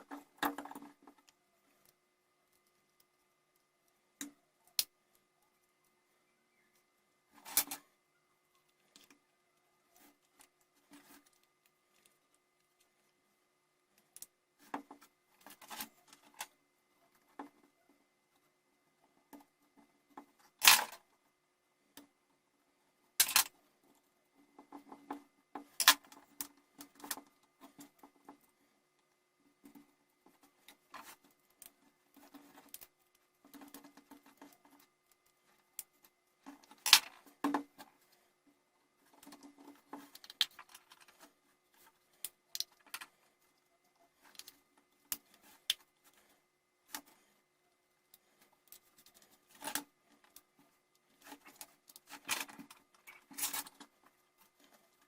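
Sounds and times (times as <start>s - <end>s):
small parts clicking and rustling: 0.0s - 21.3s, 22.9s - 55.0s.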